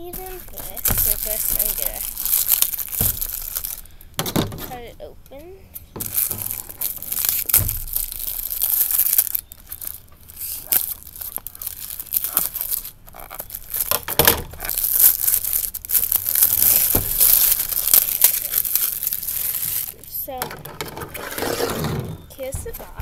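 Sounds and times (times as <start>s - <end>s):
scissors cutting plastic wrap: 0.0s - 3.8s, 6.0s - 22.8s
plastic wrap tearing and crinkling: 0.0s - 4.9s, 5.8s - 23.0s.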